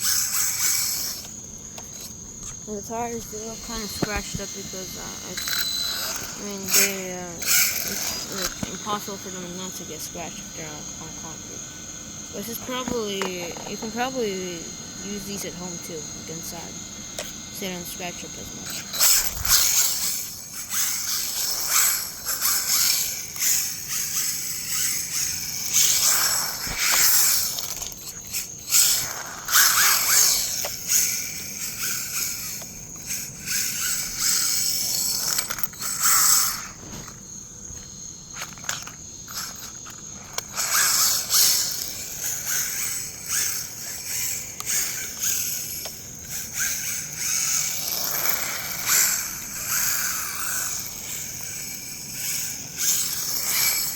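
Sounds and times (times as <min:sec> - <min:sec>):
electric motor whine: 0:00.0 - 0:53.9.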